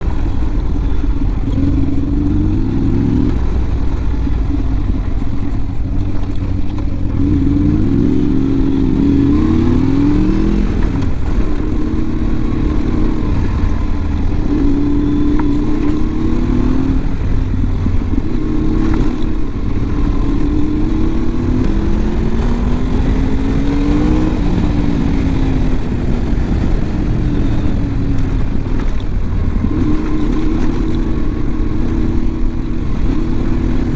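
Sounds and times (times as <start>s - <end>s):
motorcycle engine accelerating: 0.0s - 33.9s
wind and road noise: 0.0s - 33.9s.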